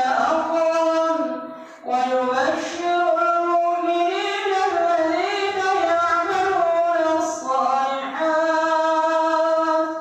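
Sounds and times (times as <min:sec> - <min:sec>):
man chanting recitation: 0:00.0 - 0:10.0.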